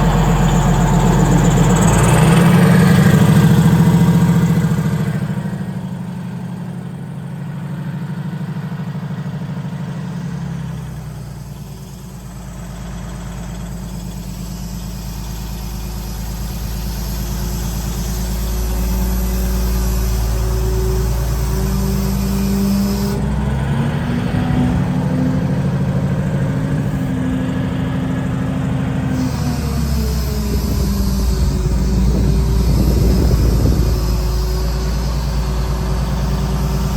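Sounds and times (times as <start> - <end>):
crane engine rumbling: 0.0 - 36.9.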